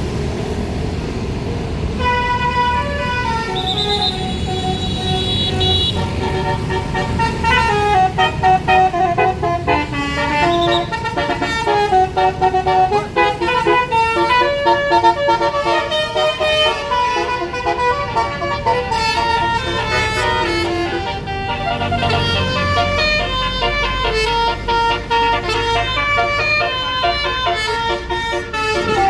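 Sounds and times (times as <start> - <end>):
bus engine rumble: 0.0 - 29.0
bus air horn playing a tune: 2.0 - 29.0.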